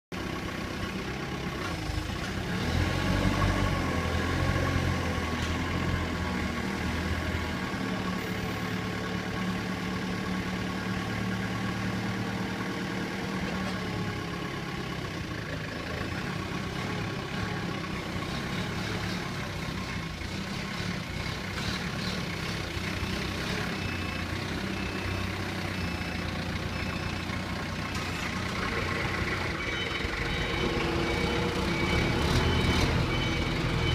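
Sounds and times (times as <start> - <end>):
forklift diesel engine running: 0.1 - 33.9.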